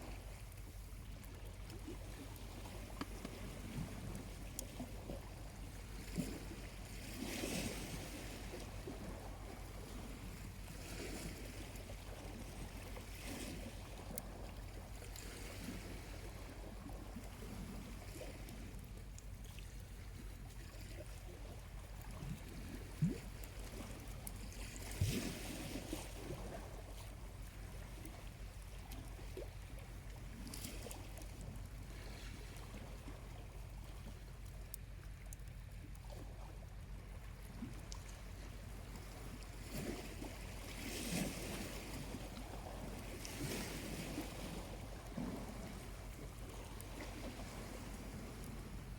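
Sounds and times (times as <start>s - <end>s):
small waves washing onto shore: 0.0s - 48.9s.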